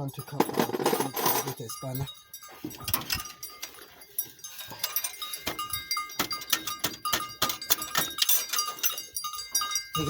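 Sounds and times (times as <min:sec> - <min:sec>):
metal hand tools clinking: 0:00.0 - 0:10.0.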